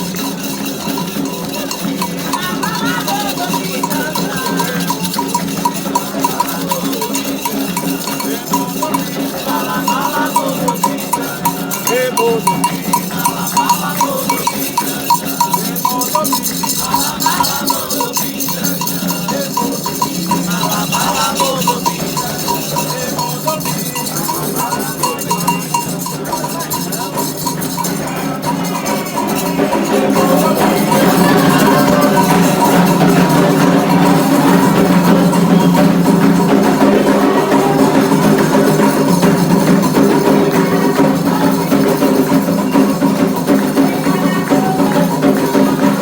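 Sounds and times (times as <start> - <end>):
bell striking a repeated pattern: 0.0 - 46.0
hand drums: 0.0 - 46.0
voices singing: 0.0 - 46.0.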